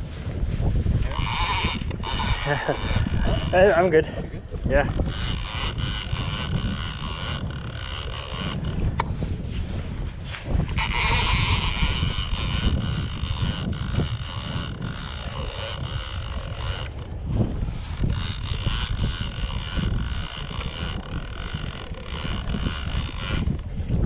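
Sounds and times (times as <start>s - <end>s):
wind rumble on microphone: 0.0s - 24.0s
fishing reel gears whirring: 0.9s - 9.3s, 10.4s - 24.0s.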